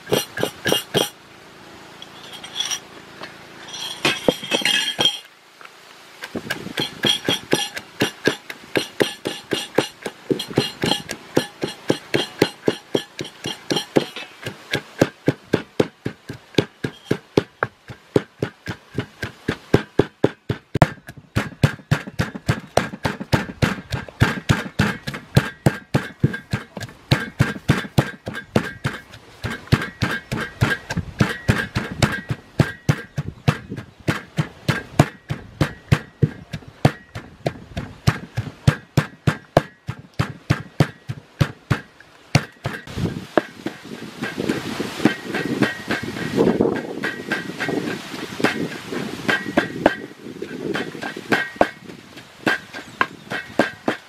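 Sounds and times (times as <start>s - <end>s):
pestle pounding in a mortar: 0.0s - 1.2s, 6.2s - 54.0s.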